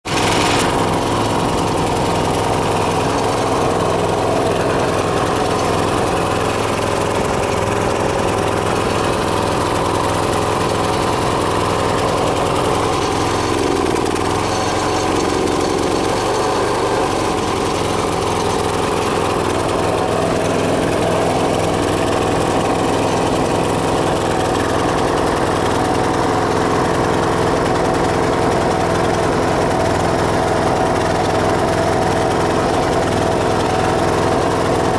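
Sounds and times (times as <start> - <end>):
small engine idling: 0.0 - 34.9.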